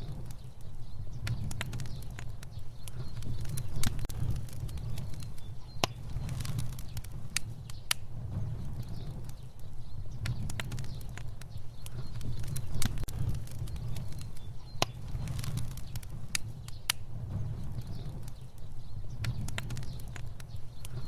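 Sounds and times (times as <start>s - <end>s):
fire crackling: 0.0s - 21.0s.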